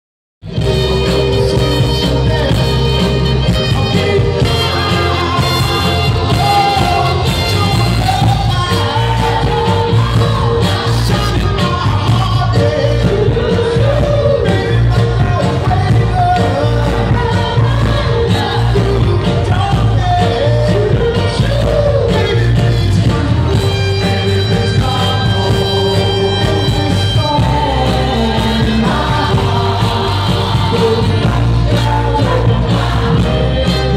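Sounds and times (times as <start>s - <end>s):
band playing bass and guitar: 0.4s - 33.9s
men singing: 0.4s - 33.9s.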